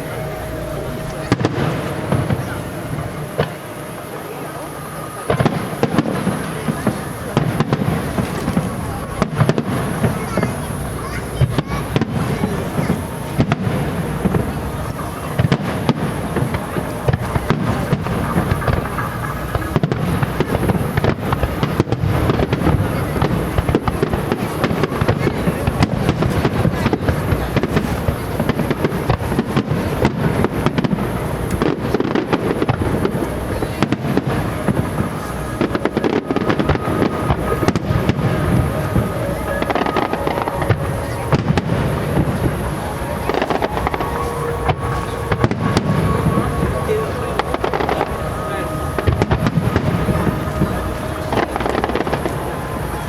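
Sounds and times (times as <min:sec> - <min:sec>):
fireworks booming and crackling: 0:00.0 - 0:53.0.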